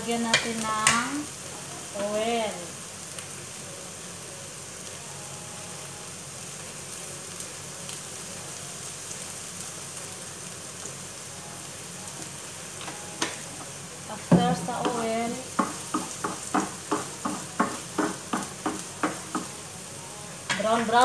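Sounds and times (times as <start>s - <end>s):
onions sizzling in frying pan: 0.0s - 21.0s.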